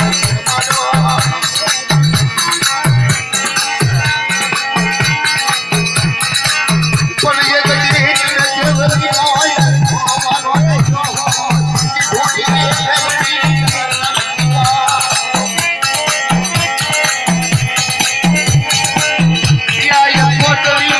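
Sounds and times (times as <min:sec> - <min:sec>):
busy percussion: 0:00.0 - 0:20.9
music with a steady beat: 0:00.0 - 0:20.9.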